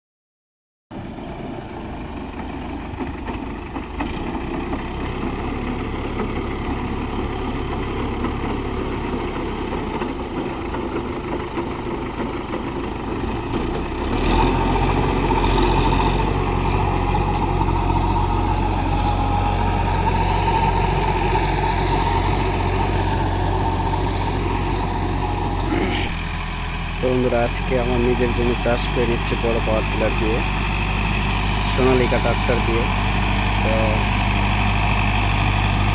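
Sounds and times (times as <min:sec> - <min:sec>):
tractor diesel engine running: 0:00.9 - 0:35.9.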